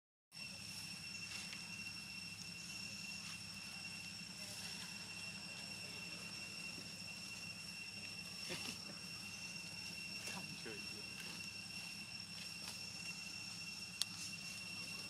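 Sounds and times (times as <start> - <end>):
high-pitched insect drone: 0.3 - 15.0.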